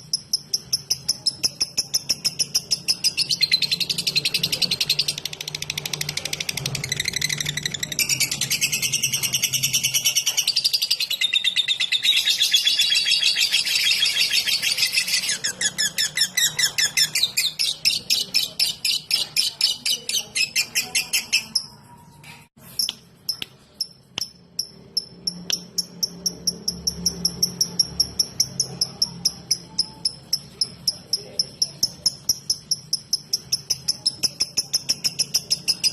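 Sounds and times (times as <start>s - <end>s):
lovebird chattering song: 0.0s - 21.9s, 22.6s - 35.9s.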